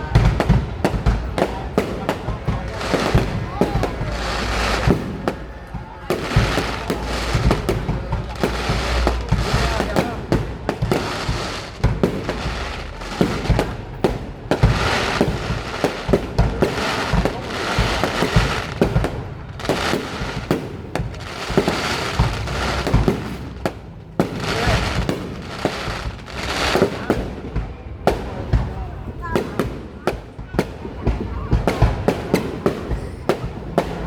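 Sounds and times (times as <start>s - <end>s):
crackling fizzing fireworks: 0.0s - 34.0s.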